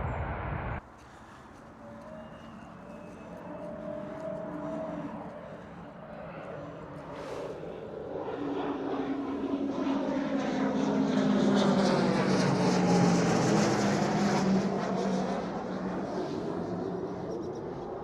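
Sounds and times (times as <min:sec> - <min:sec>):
propeller aircraft flying past: 0:00.0 - 0:18.0.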